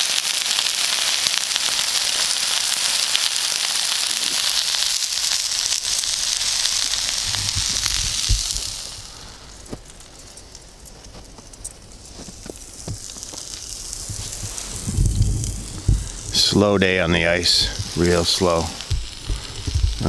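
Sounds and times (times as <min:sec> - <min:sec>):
steaks sizzling in a pan: 0:00.0 - 0:10.7, 0:12.0 - 0:20.0.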